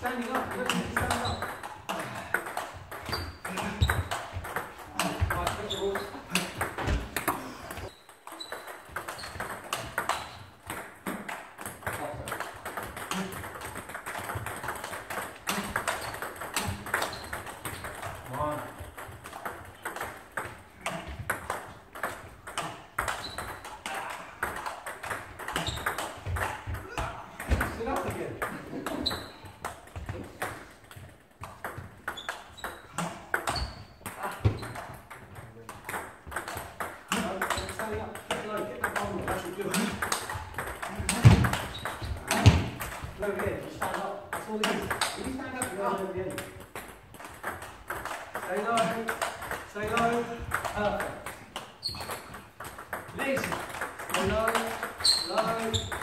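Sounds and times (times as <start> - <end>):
table tennis ball clicking: 8.0 - 26.8, 27.4 - 56.0.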